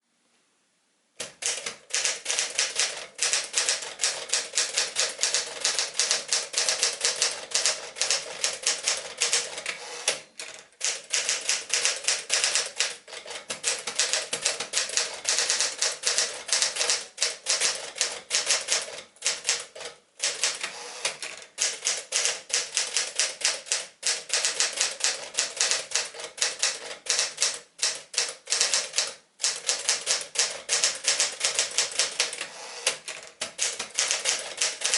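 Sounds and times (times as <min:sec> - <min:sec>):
manual typewriter typing: 0:01.2 - 0:34.9.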